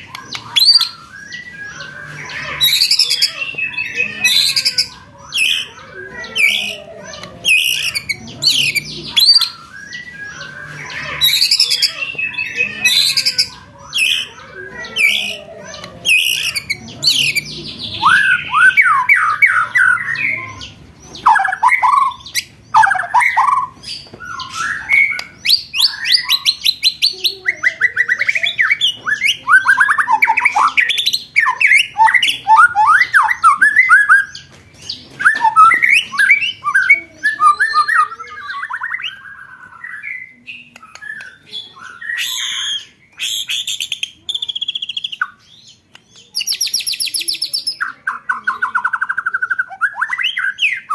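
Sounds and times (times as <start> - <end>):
recorded songbird song: 0.0 - 50.9.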